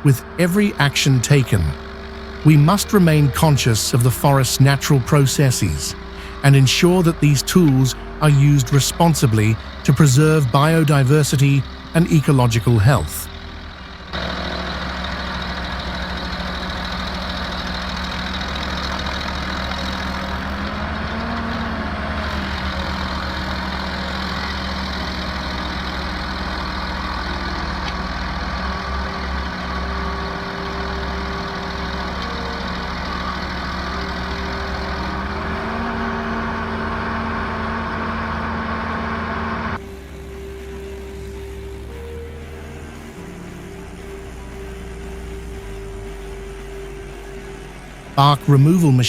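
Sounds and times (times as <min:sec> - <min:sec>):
heavy machine engine under load: 0:00.0 - 0:49.0.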